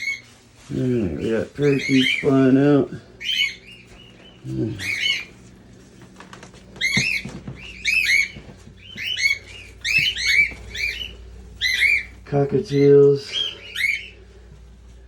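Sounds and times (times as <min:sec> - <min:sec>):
parrots chirping: 0:00.0 - 0:14.8.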